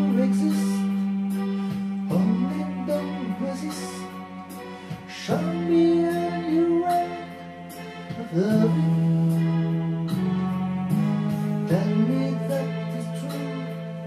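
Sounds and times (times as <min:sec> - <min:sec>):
instrumental backing: 0:00.0 - 0:14.0.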